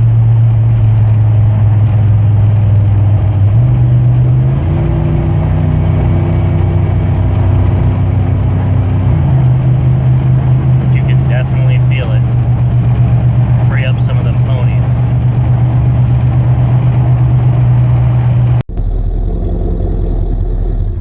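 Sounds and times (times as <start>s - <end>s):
truck engine pulling under load: 0.0s - 18.6s.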